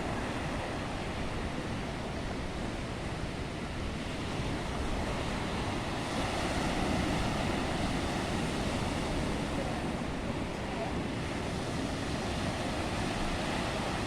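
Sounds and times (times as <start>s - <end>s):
waves breaking: 0.0s - 14.0s
wind: 0.0s - 14.0s.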